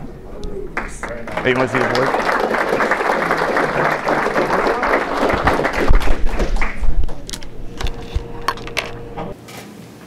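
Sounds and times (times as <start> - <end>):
audience applauding: 0.7 - 9.2.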